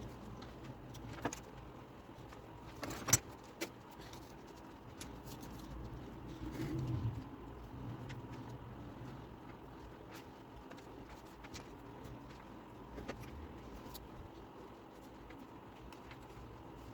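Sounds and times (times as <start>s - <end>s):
low steady hum: 0.0s - 16.9s
soft rustling scrape: 2.2s - 16.9s.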